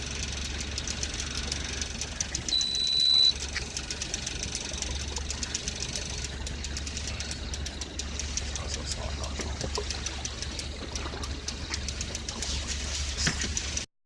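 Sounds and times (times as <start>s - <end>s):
boat engine ticking hum: 0.0s - 13.9s
high steady tone: 0.5s - 12.9s.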